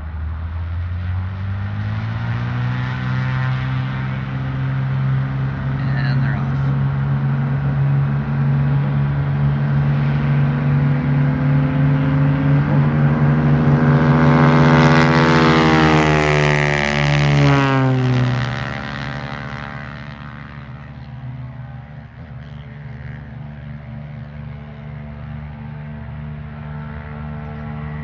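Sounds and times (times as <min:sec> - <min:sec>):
light aircraft engine passing: 0:00.0 - 0:28.0.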